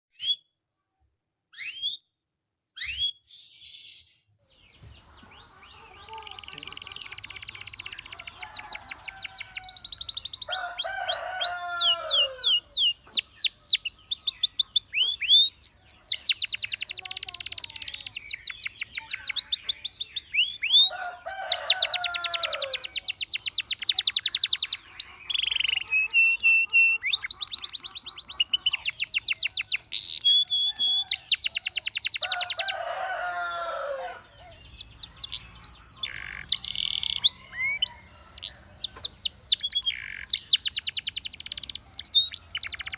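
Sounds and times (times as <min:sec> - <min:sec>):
canary singing trills: 0:02.8 - 0:42.9.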